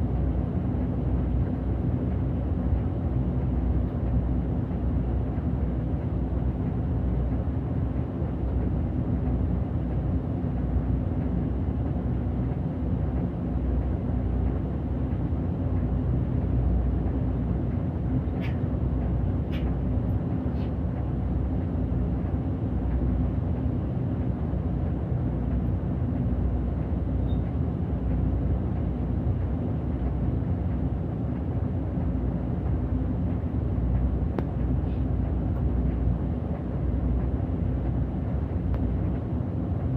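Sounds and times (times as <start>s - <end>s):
bus engine and road rumble: 0.0s - 39.9s
constant hum: 0.0s - 39.9s.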